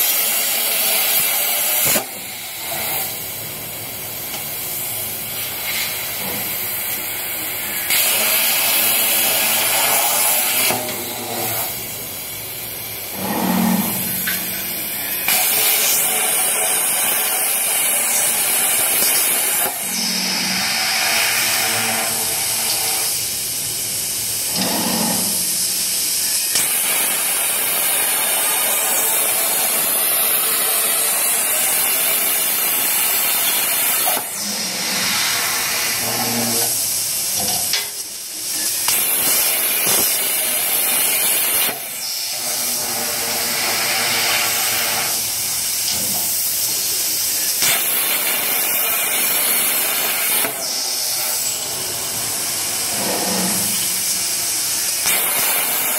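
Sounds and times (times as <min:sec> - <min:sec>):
plasma arc hissing: 0:00.0 - 0:55.9.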